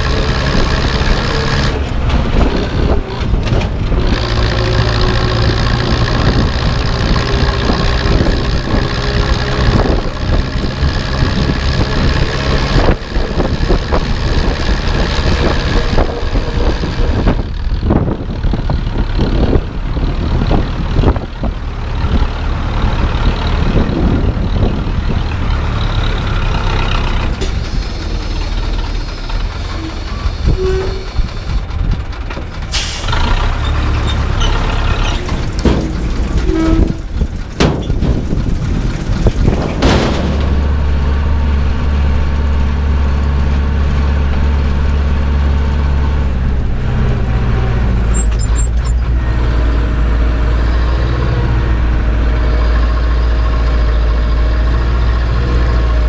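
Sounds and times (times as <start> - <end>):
rattling and clanking: 0.0 - 56.0
tractor diesel engine running: 0.0 - 56.0.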